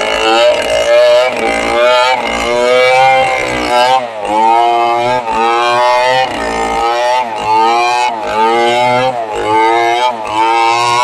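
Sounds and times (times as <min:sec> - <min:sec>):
chainsaw cutting through log: 0:00.0 - 0:11.0.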